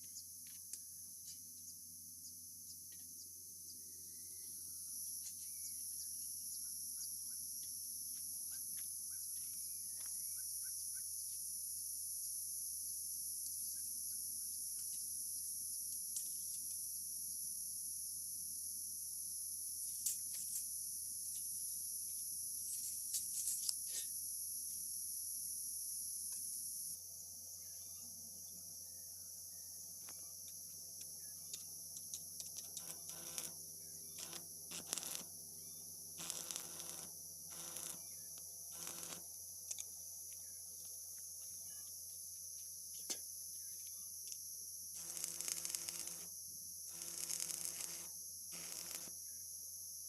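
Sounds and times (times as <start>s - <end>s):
faint chirps: 0.0s - 50.0s
high-pitched insect chorus: 0.0s - 50.0s.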